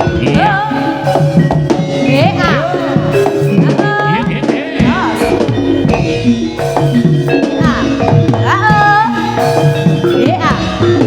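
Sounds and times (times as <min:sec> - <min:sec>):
drumming: 0:00.0 - 0:11.0
gamelan percussion: 0:00.0 - 0:11.0
wailing melody: 0:00.0 - 0:11.0.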